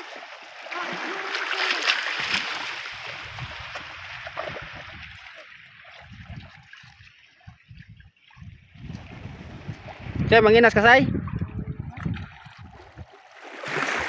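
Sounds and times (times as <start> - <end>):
feet wading through water: 0.0 - 10.2, 11.2 - 14.0.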